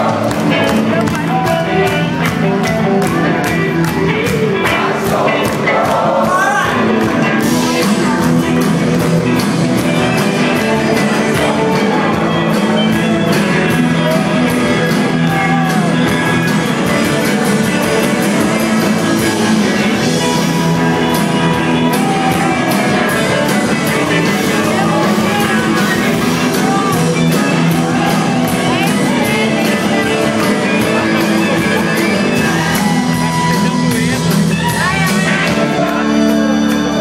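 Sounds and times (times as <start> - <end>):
drums: 0.0 - 37.0
electric guitars: 0.0 - 37.0.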